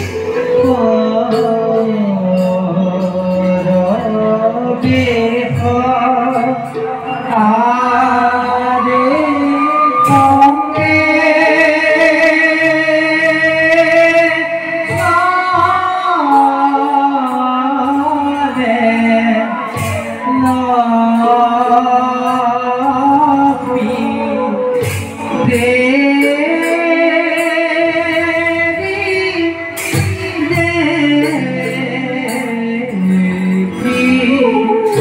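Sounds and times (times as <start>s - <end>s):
instrumental accompaniment: 0.0s - 35.0s.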